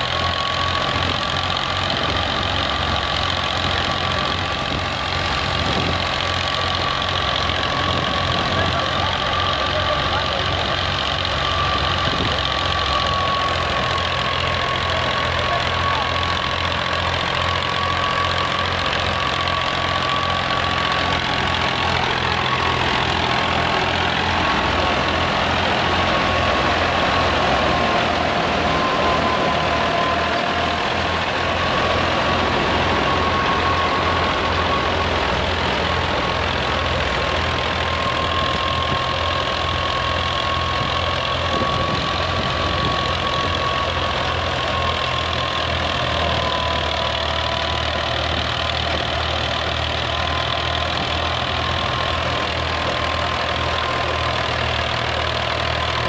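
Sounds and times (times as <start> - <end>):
high wavering whine: 0.0 - 48.4
threshing machine whirring: 0.0 - 56.0
tractor diesel engine running: 0.0 - 56.0.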